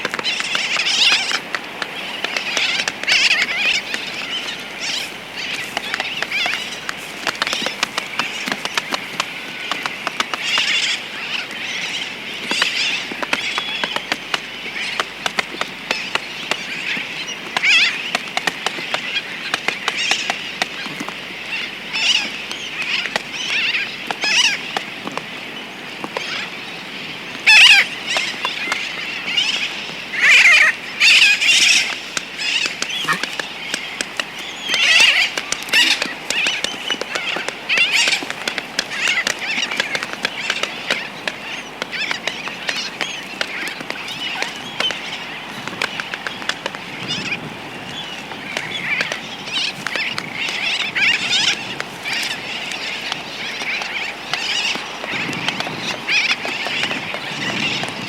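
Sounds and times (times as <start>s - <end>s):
albatross clicking: 0.0s - 25.3s, 27.4s - 58.0s
distant tern colony calling: 0.0s - 58.0s
tern flight calls: 0.0s - 58.0s.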